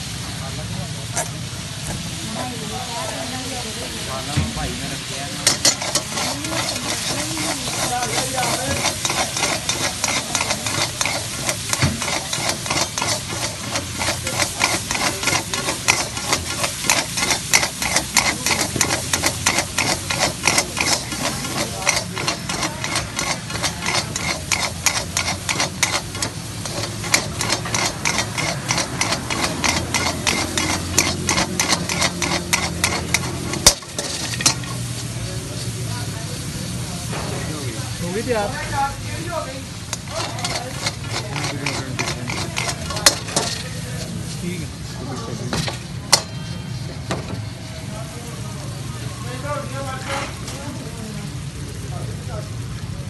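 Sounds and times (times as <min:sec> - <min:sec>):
sauce sizzling: 0:00.0 - 0:53.0
metal spatula scraping wok: 0:01.1 - 0:01.5, 0:02.3 - 0:50.9.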